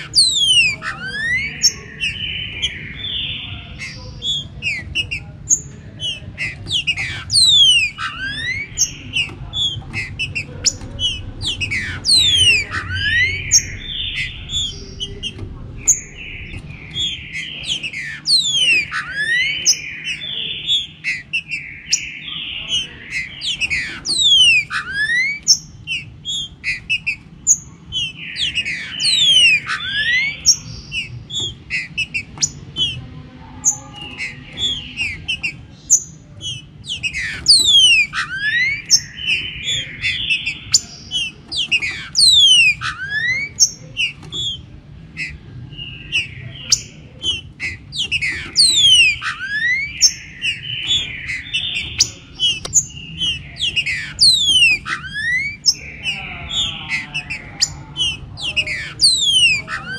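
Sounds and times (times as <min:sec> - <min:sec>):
birds singing whistled phrases: 0:00.0 - 0:59.9.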